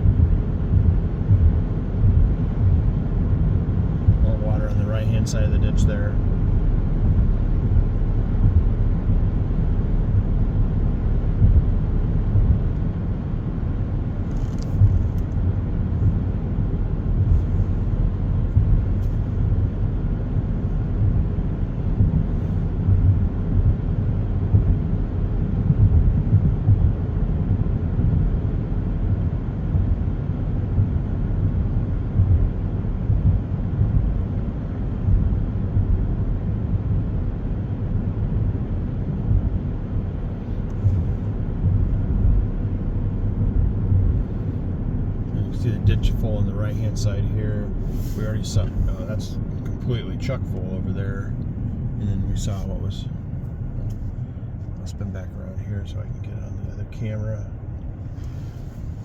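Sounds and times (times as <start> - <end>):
car interior road and engine rumble: 0.0 - 59.0.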